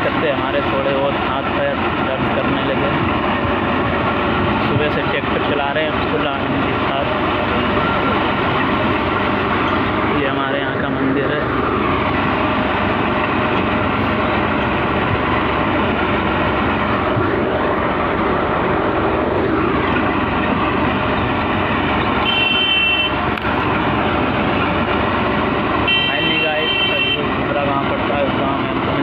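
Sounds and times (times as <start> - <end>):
diesel tractor engine running: 0.0 - 29.0
road noise: 0.0 - 29.0.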